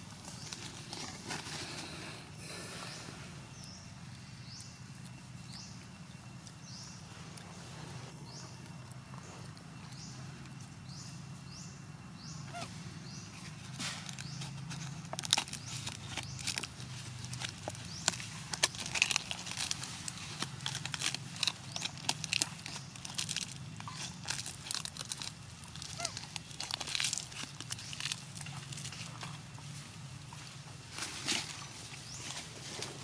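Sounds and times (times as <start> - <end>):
rustling and crackling: 0.0 - 11.0, 13.0 - 33.0
low steady hum: 0.0 - 33.0.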